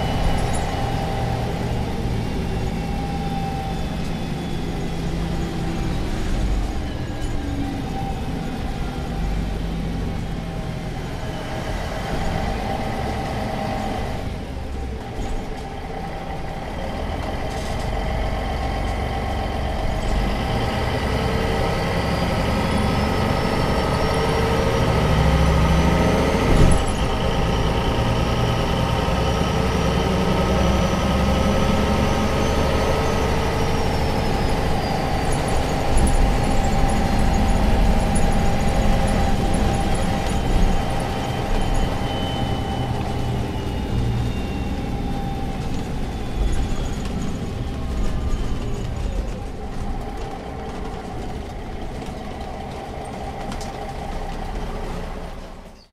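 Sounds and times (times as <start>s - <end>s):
bus diesel engine rumbling: 0.0s - 55.9s.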